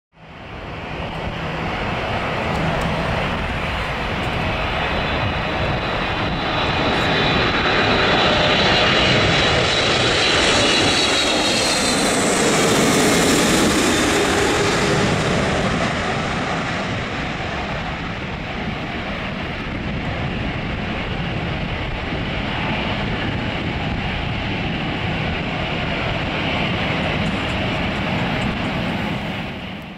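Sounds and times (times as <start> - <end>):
jet engines whining overhead: 0.2 - 29.9
jet rumble: 0.2 - 29.9.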